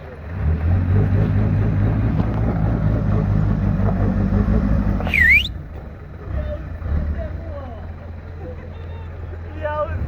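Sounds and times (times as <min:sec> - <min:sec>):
off-road engine running hard: 0:00.0 - 0:10.0.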